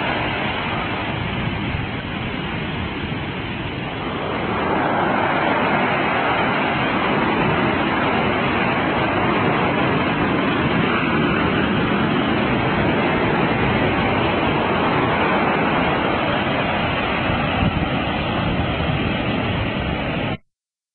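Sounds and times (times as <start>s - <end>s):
ocean waves breaking: 0.0s - 20.4s.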